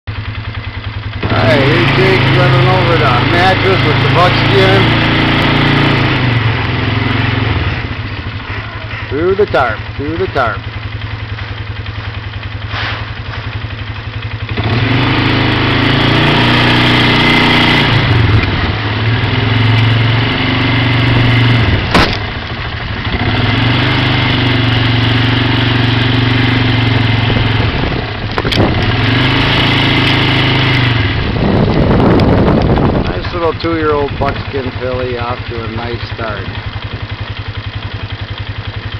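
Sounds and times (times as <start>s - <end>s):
small vehicle engine: 0.1s - 38.9s.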